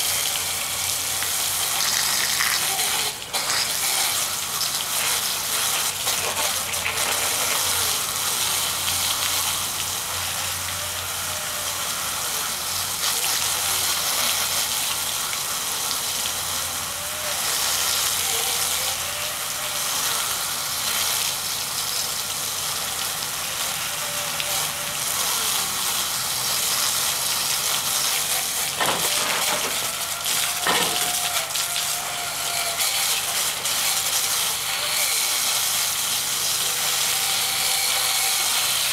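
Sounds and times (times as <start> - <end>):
water spray hissing: 0.0 - 10.9, 17.3 - 38.9.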